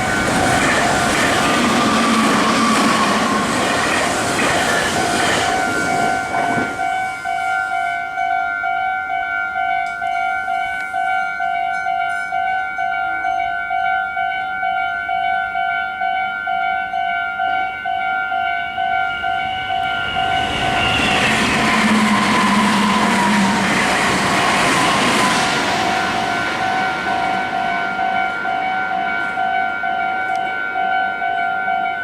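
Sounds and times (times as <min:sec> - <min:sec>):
electric train passing: 0:00.0 - 0:32.0
level crossing warning bell: 0:00.0 - 0:32.0.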